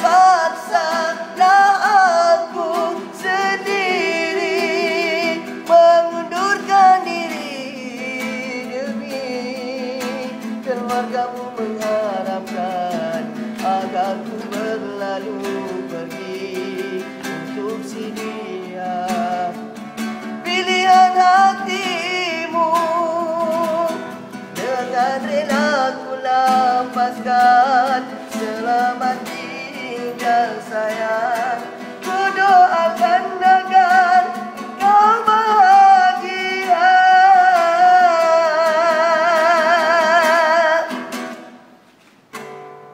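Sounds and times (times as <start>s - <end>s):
man singing: 0.0s - 41.6s
acoustic guitar strumming: 0.0s - 42.9s.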